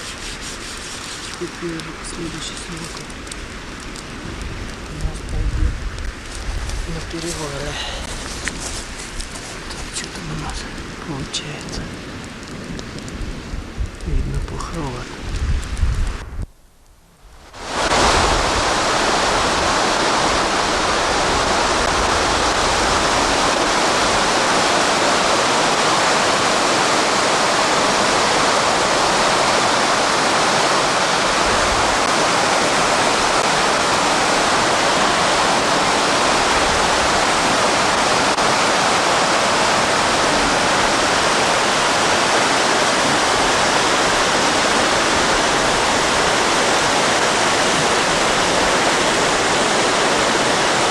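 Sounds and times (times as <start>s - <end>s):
creek rushing over stones: 0.0s - 11.9s, 17.4s - 50.9s.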